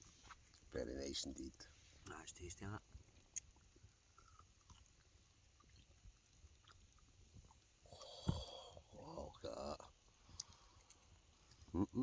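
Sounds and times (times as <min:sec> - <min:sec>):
faint chewing of food: 0:00.0 - 0:08.9, 0:09.8 - 0:12.0.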